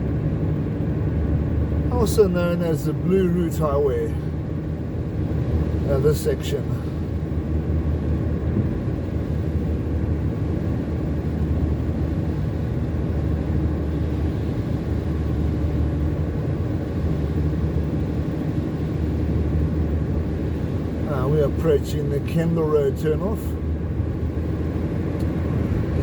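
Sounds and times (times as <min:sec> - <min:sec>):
car engine and tyre road noise: 0:00.0 - 0:26.0.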